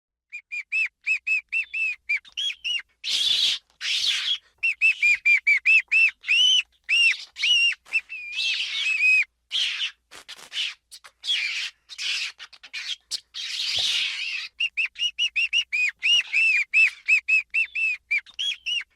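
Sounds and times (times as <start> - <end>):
ferret squeaking: 1.6 - 18.9.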